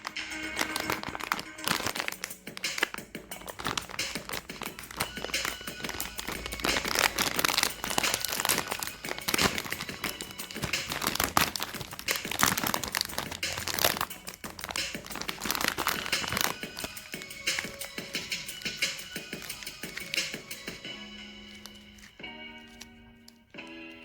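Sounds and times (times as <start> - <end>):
faint background music: 0.0 - 24.0
wrappers crinkling and tearing: 0.0 - 24.0.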